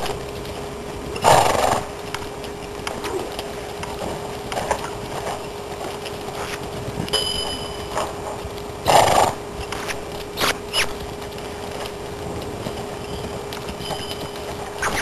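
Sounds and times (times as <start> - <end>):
hooves on soft dirt: 0.0 - 15.0.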